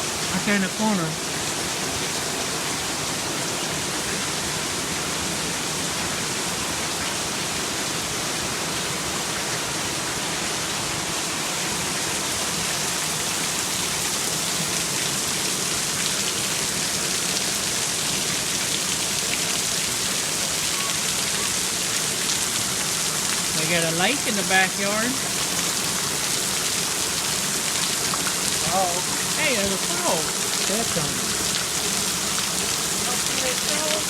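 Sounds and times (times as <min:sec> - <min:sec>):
heavy rain: 0:00.0 - 0:34.0
runoff pouring off roof: 0:00.0 - 0:34.0.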